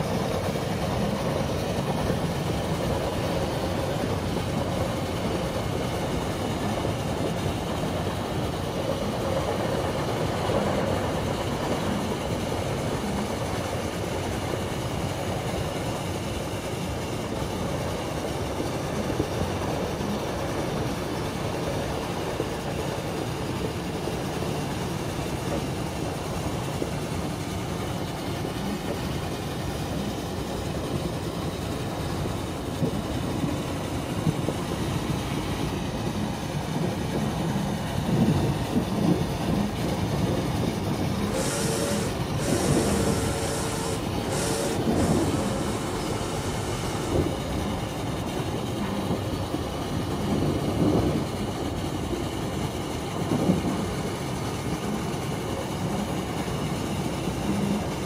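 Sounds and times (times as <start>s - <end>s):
steam hissing: 0.0s - 58.0s
thin steady tone: 0.0s - 58.0s
train rumbling and rattling: 0.0s - 58.0s.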